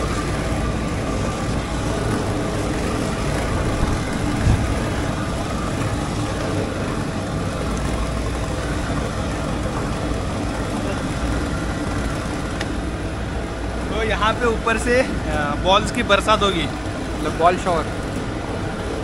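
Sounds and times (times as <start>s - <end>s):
air blower droning: 0.0s - 19.0s.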